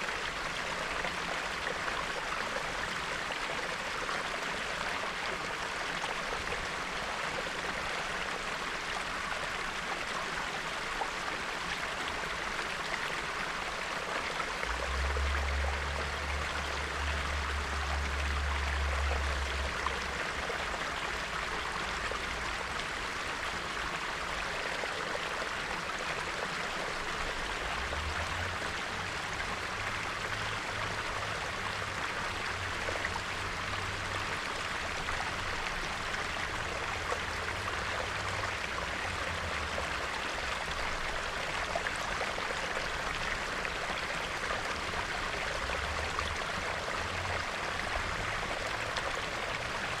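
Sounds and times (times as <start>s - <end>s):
stream bubbling: 0.0s - 50.0s.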